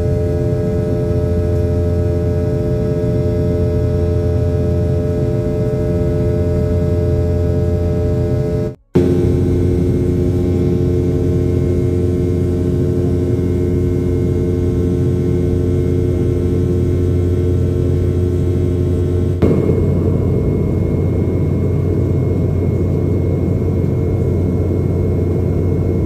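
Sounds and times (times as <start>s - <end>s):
airliner cabin engine drone: 0.0s - 26.0s.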